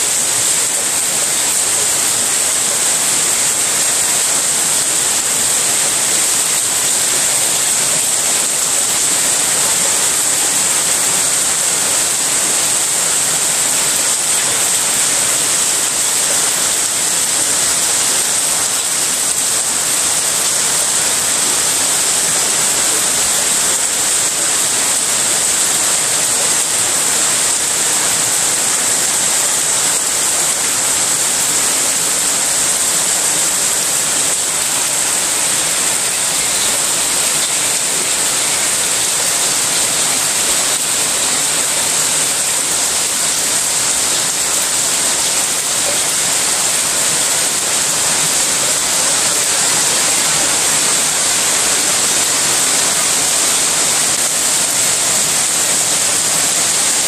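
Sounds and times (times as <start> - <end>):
heavy rain on paving: 0.0 - 57.0.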